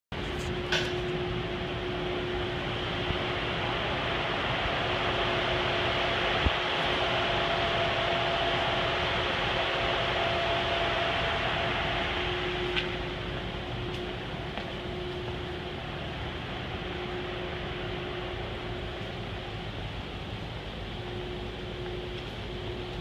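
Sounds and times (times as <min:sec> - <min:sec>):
freezer fans rushing air: 0:00.1 - 0:23.0.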